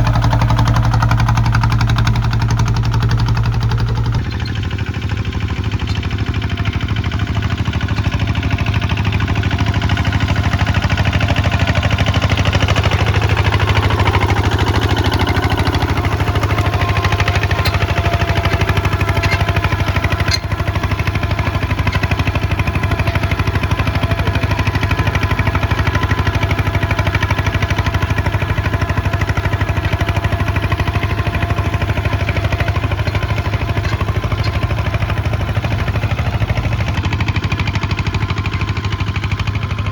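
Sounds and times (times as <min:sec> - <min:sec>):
diesel engine thudding: 0:00.0 - 0:39.9.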